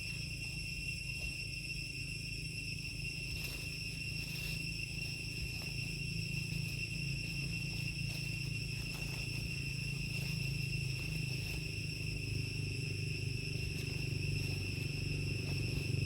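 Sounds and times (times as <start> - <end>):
insects droning: 0.0 - 16.0
low background rumble: 0.0 - 16.0.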